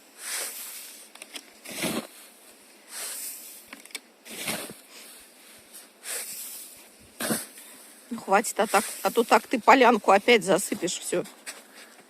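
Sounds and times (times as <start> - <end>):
snow crunching swishes: 0.2 - 1.1, 1.7 - 3.7, 4.3 - 11.6.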